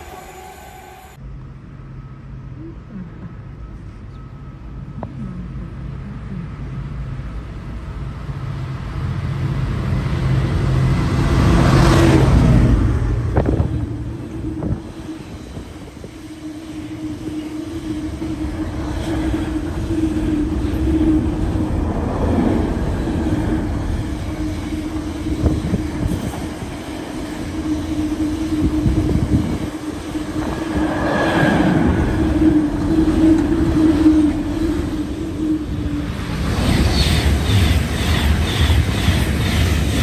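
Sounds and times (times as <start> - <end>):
train wheels rumbling on rails: 3.4 - 40.0.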